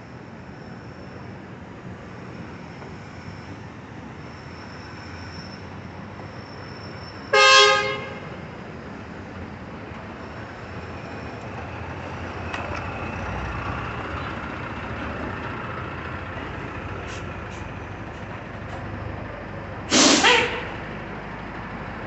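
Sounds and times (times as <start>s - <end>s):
truck engine rumbling: 1.2s - 22.0s.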